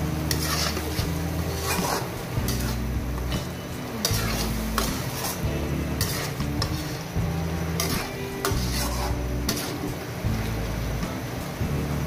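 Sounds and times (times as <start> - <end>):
spatula scraping a pan: 0.0 - 10.2
livers sizzling in a pan: 0.0 - 12.0.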